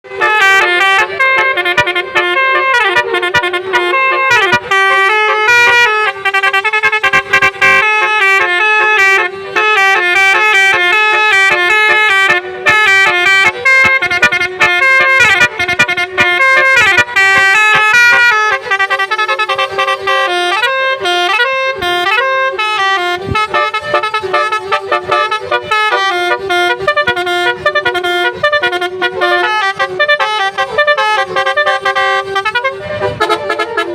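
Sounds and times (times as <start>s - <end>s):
musical vehicle horn tune: 0.0s - 33.9s.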